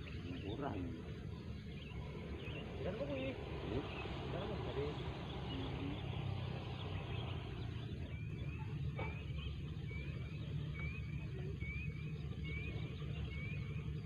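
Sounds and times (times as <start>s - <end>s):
bird chirping: 0.0s - 14.0s
low outdoor rumble: 0.0s - 14.0s.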